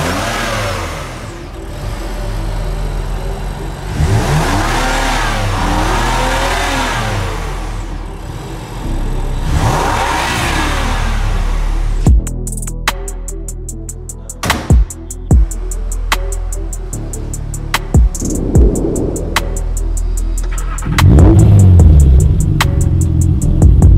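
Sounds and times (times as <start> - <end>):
car engine revving: 0.0 - 12.1, 15.2 - 23.9.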